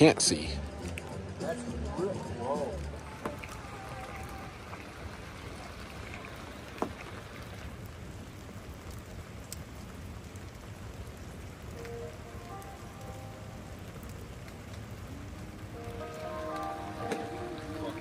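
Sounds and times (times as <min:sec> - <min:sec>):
campfire crackling and hissing: 0:00.0 - 0:18.0.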